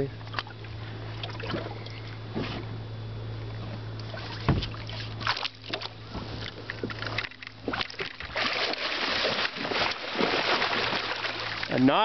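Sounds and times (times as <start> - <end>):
steady low hum: 0.0 - 12.0
water splashing and sloshing: 0.2 - 2.7, 3.5 - 12.0.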